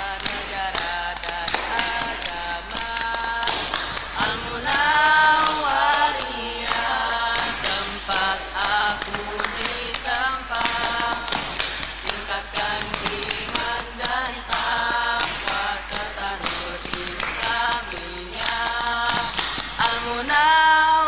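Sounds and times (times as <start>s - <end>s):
rhythmic hand claps and taps: 0.0s - 20.8s
boys singing a cappella: 0.0s - 21.0s.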